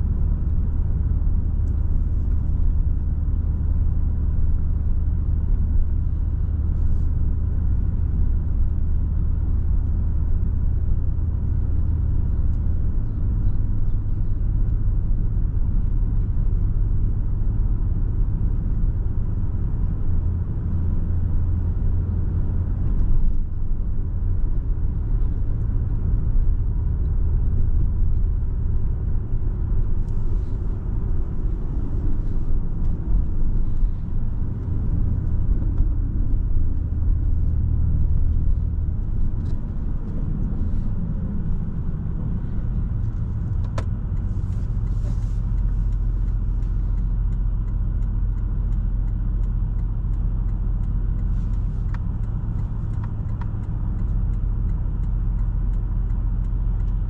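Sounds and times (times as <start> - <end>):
car engine droning while driving: 0.0 - 57.0
tyre and road rumble: 0.0 - 57.0.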